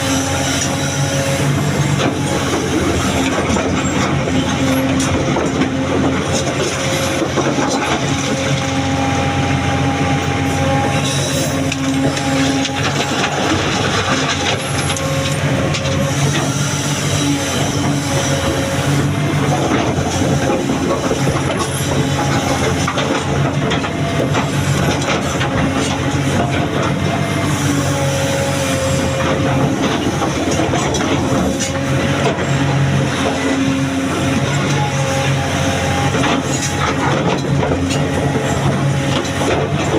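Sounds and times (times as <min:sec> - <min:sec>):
excavator diesel engine working: 0:00.0 - 0:39.9.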